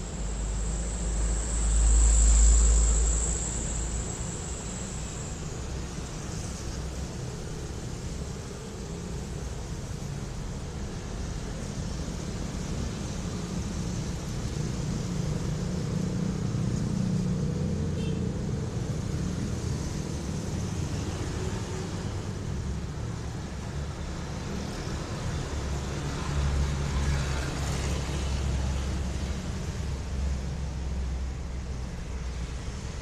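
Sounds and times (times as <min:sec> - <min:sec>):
road vehicle rumble: 0:00.0 - 0:33.0.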